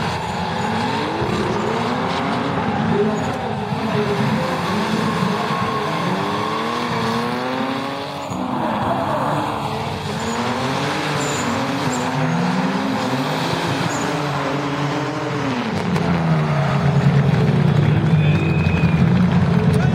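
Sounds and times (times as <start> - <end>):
car engine revving hard: 0.0 - 19.9
tyres squealing and skidding: 0.0 - 19.9.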